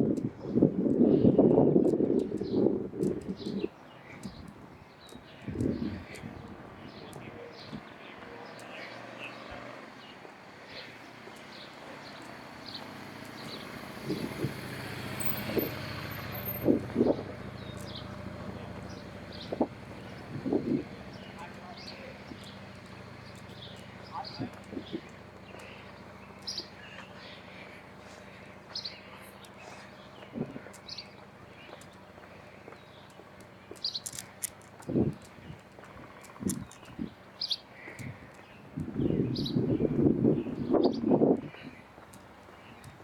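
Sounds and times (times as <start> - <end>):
traffic: 0.0 - 43.0
wind buffeting microphone: 0.0 - 43.0.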